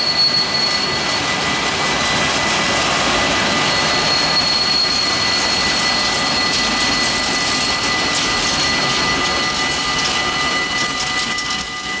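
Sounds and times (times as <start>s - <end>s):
freight train rolling past: 0.0s - 12.0s
high-pitched steady tones: 0.0s - 12.0s.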